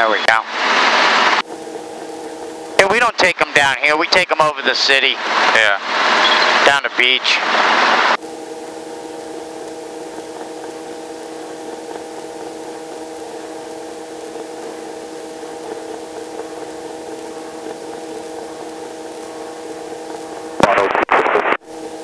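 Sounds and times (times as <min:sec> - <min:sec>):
helicopter cabin hum: 0:00.0 - 0:20.9.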